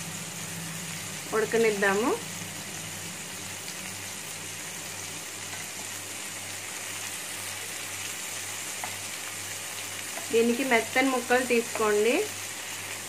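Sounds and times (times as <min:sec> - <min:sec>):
chicken sizzling in pan: 0:00.0 - 0:13.0.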